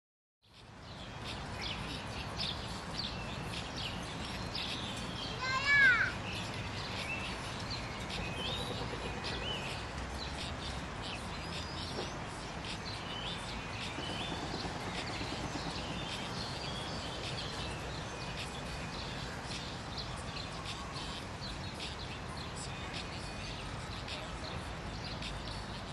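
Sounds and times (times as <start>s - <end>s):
small birds chirping: 0.4s - 25.9s
steady outdoor hum: 0.5s - 25.9s.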